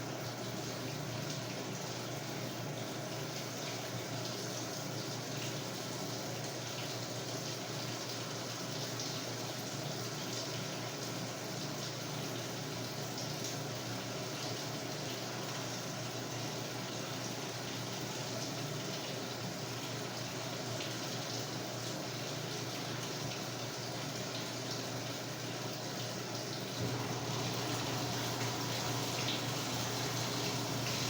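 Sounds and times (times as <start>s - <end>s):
water pouring into washer tub: 0.0s - 31.0s.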